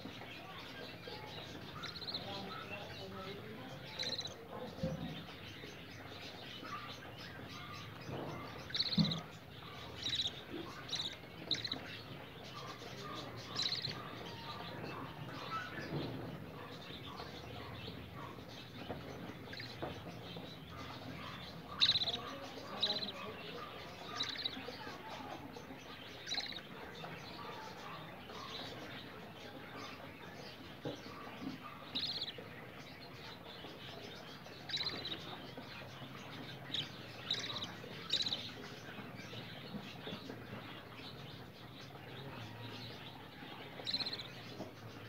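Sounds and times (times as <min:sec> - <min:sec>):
bird chick begging chirps: 0:00.1 - 0:45.0.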